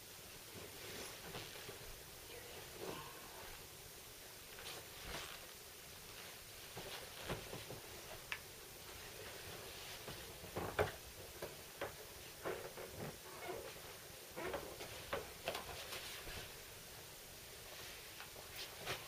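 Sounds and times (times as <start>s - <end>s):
rustling of person moving: 0.0s - 19.0s.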